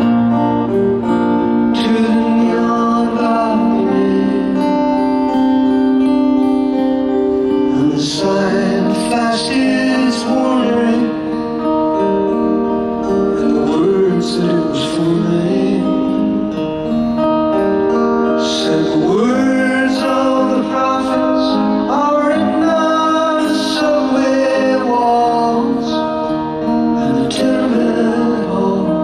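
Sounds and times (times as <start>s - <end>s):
acoustic guitar: 0.0s - 29.0s
man singing: 1.4s - 5.4s, 7.5s - 12.4s, 13.0s - 16.7s, 17.9s - 29.0s.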